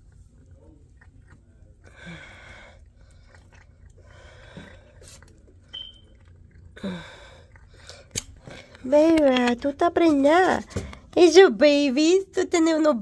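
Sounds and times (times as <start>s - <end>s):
cat chewing and crunching food: 0.0s - 11.2s.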